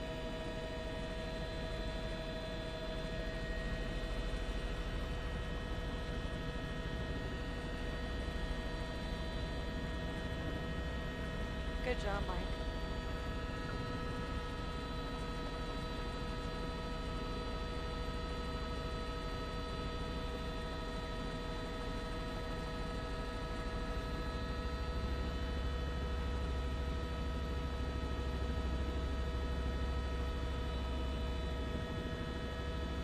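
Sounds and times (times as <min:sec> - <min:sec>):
helicopter cabin drone: 0:00.0 - 0:33.0.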